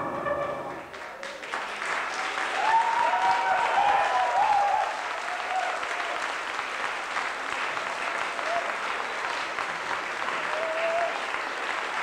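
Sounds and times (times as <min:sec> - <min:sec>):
audience clapping and cheering: 0:00.7 - 0:12.0.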